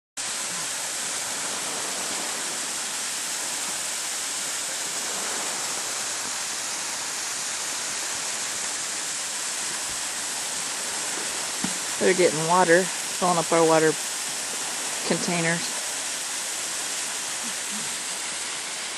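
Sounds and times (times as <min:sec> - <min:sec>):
waterfall rushing: 0:00.2 - 0:18.9.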